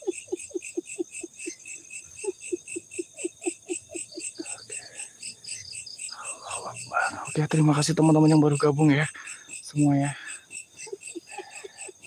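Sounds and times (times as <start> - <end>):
insects pulsing: 0.0 - 12.0.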